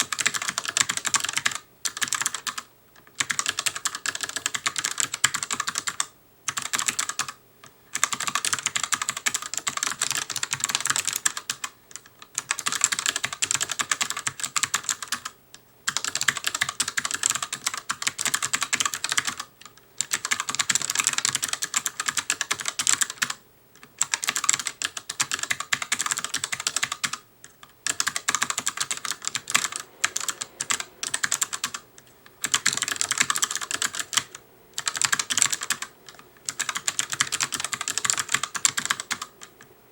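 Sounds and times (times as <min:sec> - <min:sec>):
mechanical keyboard typing: 0:00.0 - 0:39.7.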